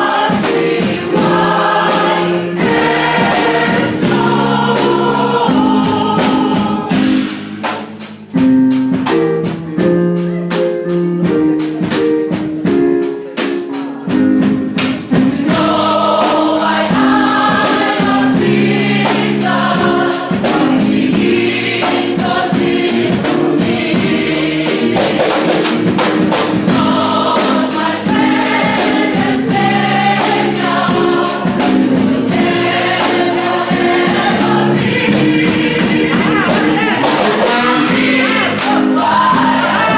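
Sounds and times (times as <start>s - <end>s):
choir singing worship song: 0.0s - 7.8s, 13.3s - 39.9s
instrumental accompaniment with beat: 0.0s - 39.9s.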